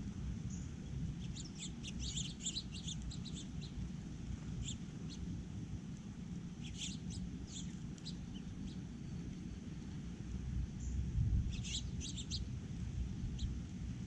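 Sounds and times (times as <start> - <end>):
steady low rumble: 0.0 - 14.0
small birds chirping: 0.4 - 14.0.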